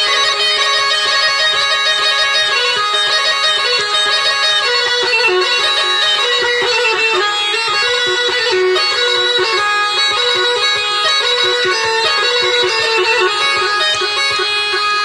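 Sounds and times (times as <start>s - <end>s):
bagpipe music: 0.0s - 15.0s.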